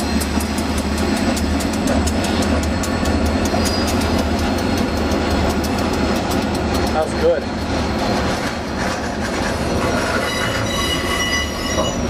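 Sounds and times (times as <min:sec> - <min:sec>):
freight train wheels clicking: 0:00.0 - 0:12.0
train rumble: 0:00.0 - 0:12.0.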